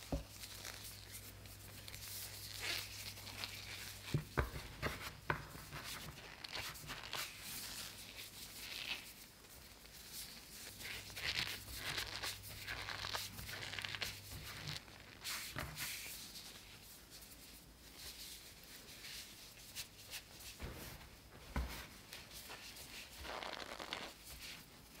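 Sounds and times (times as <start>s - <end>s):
soft dry rustling of candy strands: 0.0s - 20.7s, 21.9s - 25.0s.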